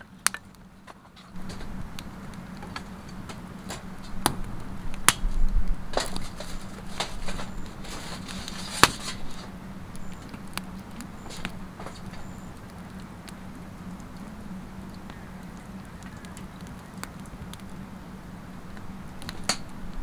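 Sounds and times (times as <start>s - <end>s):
campfire crackling and popping: 0.0s - 20.0s
faint steady hum: 0.0s - 20.0s.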